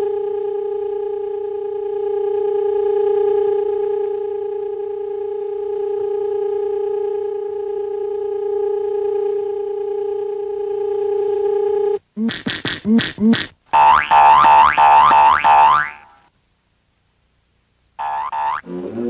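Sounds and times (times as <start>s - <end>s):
steady electronic hum: 0.0s - 19.0s.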